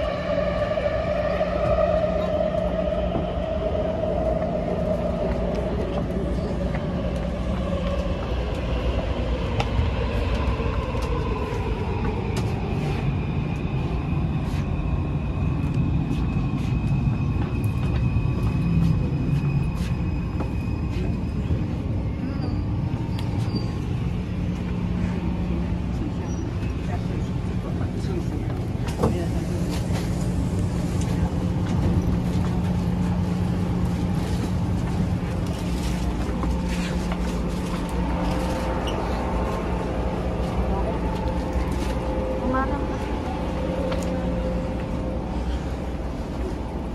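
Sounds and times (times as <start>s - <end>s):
passengers chattering: 0.0s - 46.9s
train rumble: 0.0s - 46.9s.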